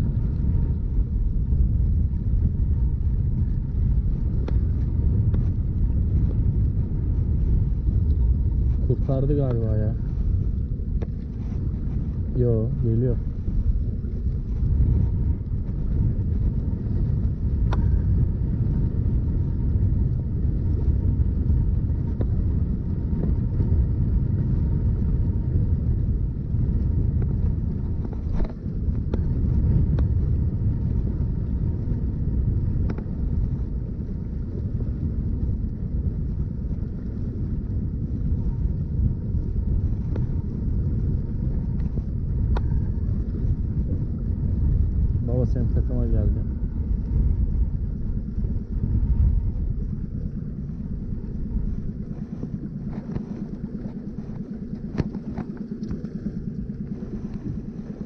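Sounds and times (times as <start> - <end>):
boat engine rumble: 0.0 - 58.0.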